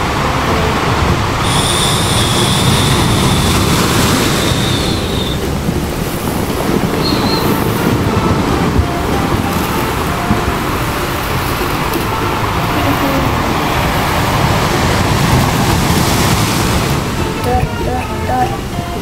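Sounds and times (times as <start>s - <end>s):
rushing sea noise: 0.0s - 19.0s.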